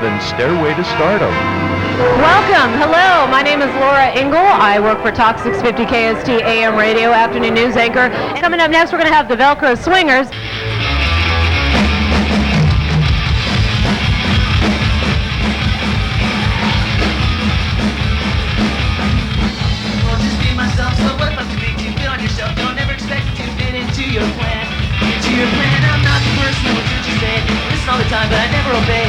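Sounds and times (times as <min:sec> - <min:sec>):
punk rock band playing: 0:00.0 - 0:08.9, 0:10.3 - 0:29.0.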